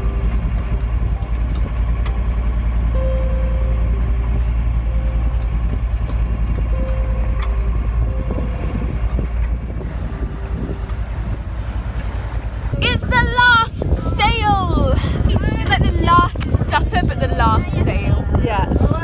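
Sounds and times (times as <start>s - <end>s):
sea rushing: 0.0s - 19.0s
wind buffeting microphone: 0.0s - 19.0s.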